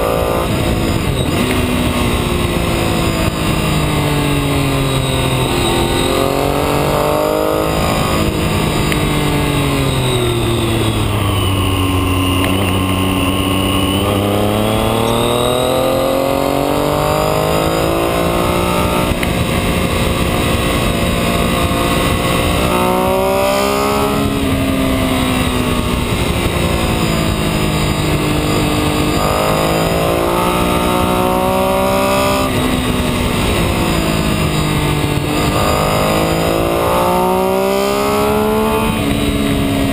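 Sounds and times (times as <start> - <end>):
engine revving through bends: 0.0 - 39.9
wind and tyre noise: 0.0 - 39.9.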